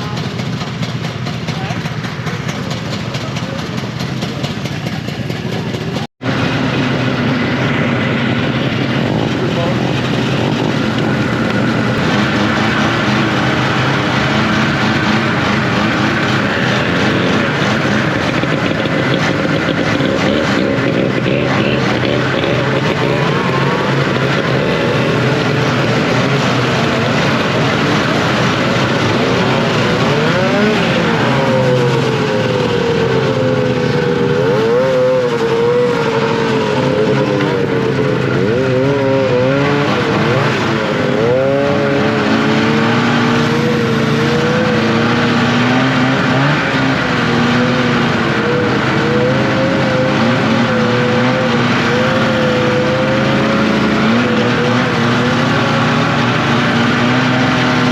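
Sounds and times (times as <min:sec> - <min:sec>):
snowmobile engine revving: 0:00.0 - 0:57.9.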